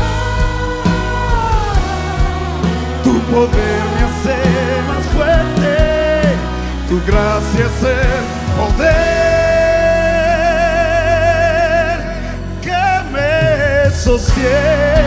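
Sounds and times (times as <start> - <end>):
person singing with vibrato: 0.0 - 15.0
worship music accompaniment: 0.0 - 15.0.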